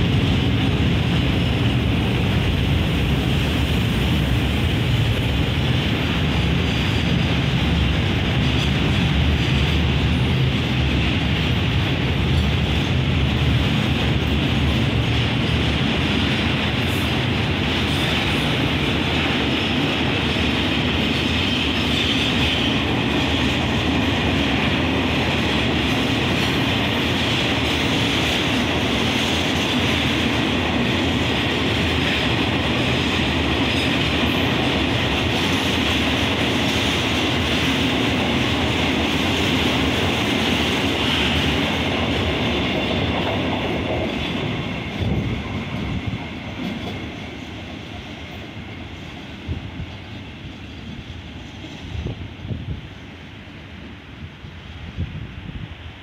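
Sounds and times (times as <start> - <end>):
freight train wheels clattering on rails: 0.0 - 53.3.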